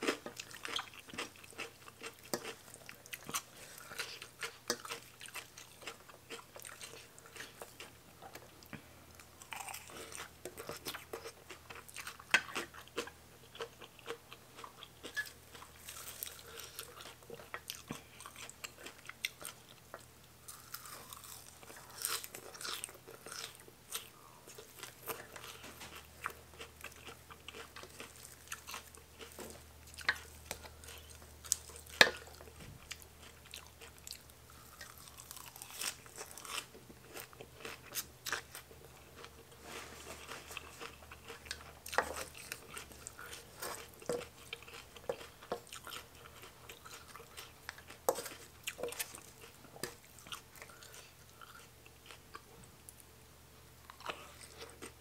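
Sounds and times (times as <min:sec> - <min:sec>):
chewing and crunching: 0:00.0 - 0:53.1, 0:53.8 - 0:55.0.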